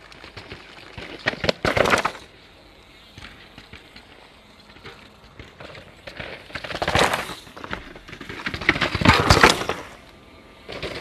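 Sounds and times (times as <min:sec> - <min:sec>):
mountain bike rattling over rock: 0:00.0 - 0:11.0.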